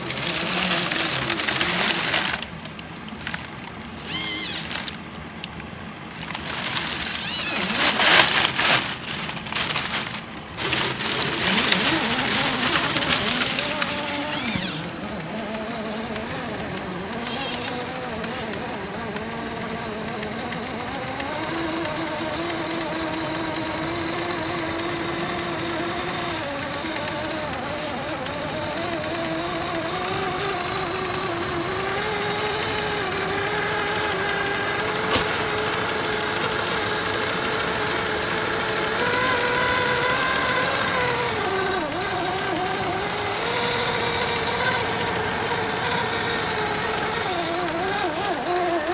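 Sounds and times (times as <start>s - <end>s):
toy car electric motor whining: 0.0s - 48.9s.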